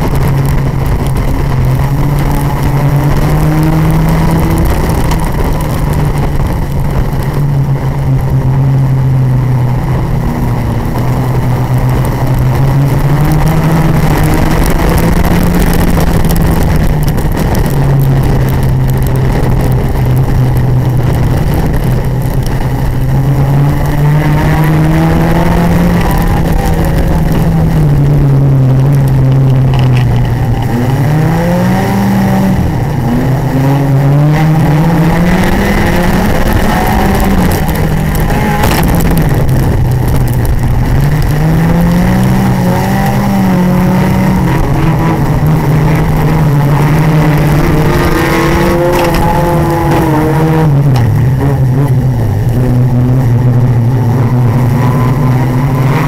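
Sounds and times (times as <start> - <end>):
race car engine revving: 0.0 - 56.0
rattling rush of noise: 0.0 - 56.0.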